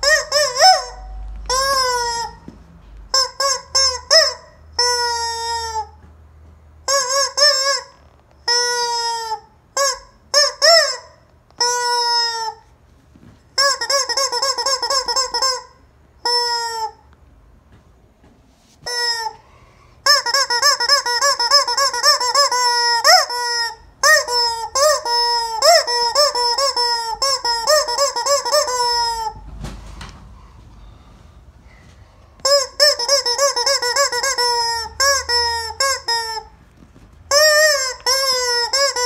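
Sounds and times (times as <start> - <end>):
rubber chicken toy squeaking: 0.0 - 6.0, 6.8 - 12.7, 13.6 - 17.1, 18.8 - 19.4, 20.0 - 29.4, 32.4 - 36.6, 37.3 - 39.0.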